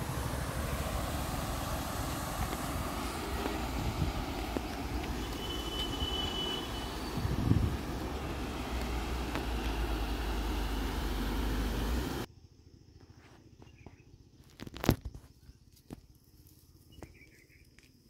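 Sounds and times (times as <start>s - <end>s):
outdoor rumble and hiss: 0.0s - 18.0s.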